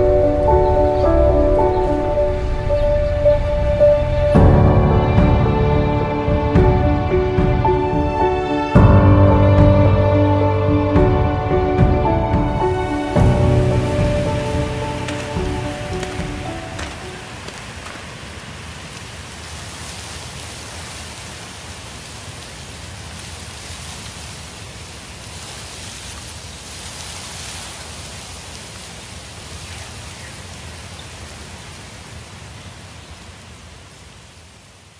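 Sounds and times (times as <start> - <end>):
rain-like ambient hiss: 0.0 - 34.9.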